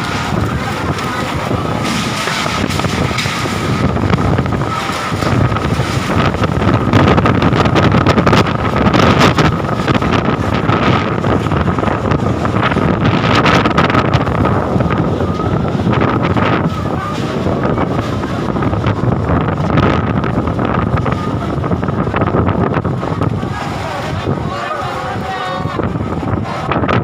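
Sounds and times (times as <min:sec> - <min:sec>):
gusting wind on microphone: 0:00.0 - 0:27.0.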